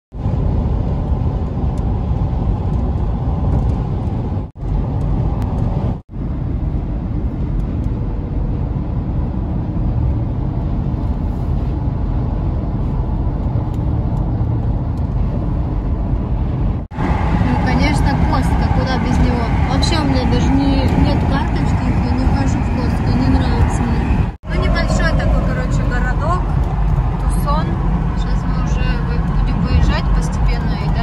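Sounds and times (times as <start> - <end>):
car road noise: 0.1 - 31.0.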